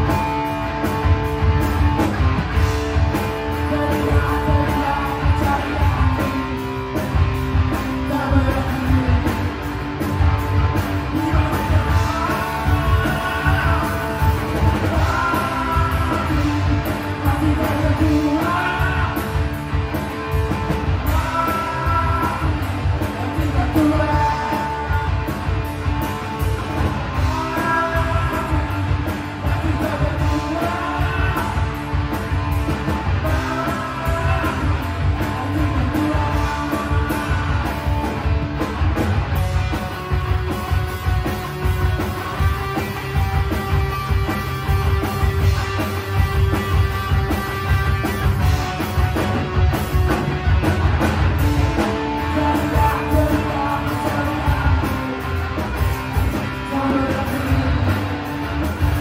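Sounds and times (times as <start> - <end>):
drum kit: 0.0 - 59.0
electric bass: 0.0 - 59.0
electric guitar: 0.0 - 59.0.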